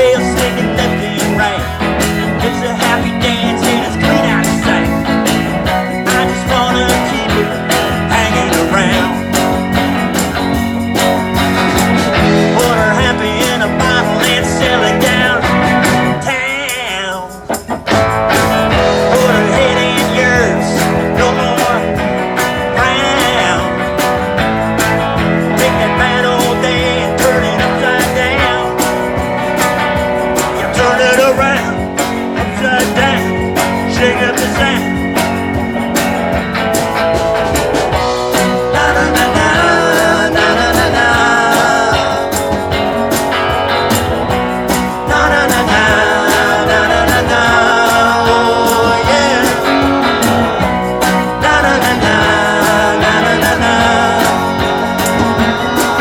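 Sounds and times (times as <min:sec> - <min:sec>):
guitar: 0:00.0 - 0:56.0
live band playing: 0:00.0 - 0:56.0.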